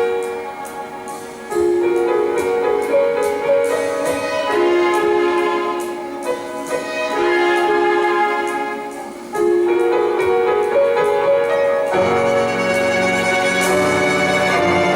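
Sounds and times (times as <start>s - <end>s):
piano and orchestra playing: 0.0s - 14.9s.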